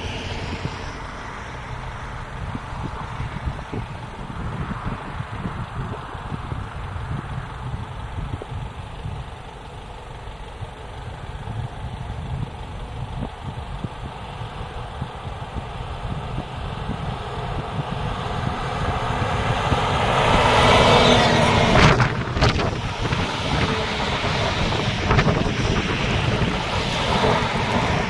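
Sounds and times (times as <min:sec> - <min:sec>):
rush of passing vehicles: 0:00.0 - 0:28.0
truck engine rumble: 0:00.0 - 0:28.0.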